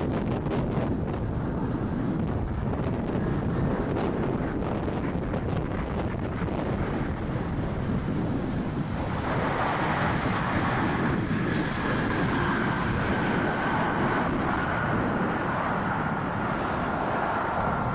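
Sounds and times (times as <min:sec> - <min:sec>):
jet engines roaring: 0:00.0 - 0:17.9
wind rumble on microphone: 0:00.0 - 0:17.9.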